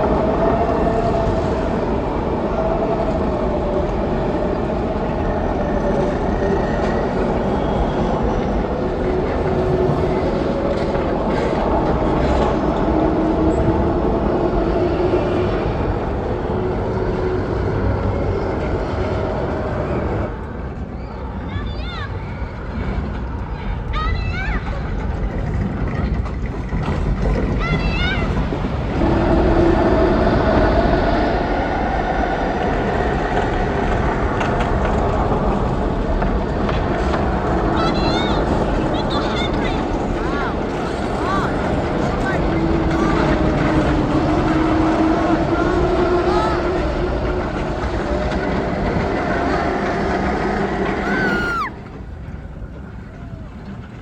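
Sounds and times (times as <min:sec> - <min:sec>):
rumble of wind noise: 0:00.0 - 0:54.0.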